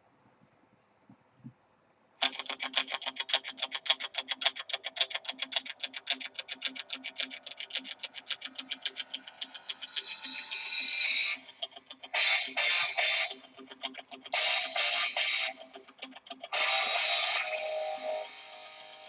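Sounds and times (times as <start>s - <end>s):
fast rhythmic intro music: 2.2s - 19.0s.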